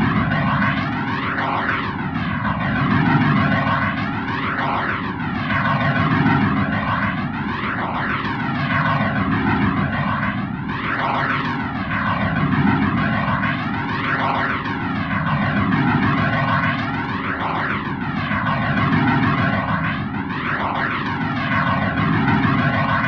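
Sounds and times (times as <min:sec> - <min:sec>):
electronic music with flanger whoosh: 0:00.0 - 0:23.0.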